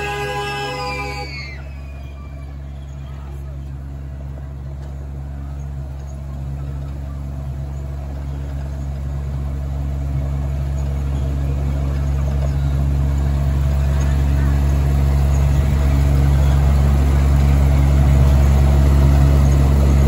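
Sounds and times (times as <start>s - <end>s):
miniature train engine drone: 0.0s - 20.0s.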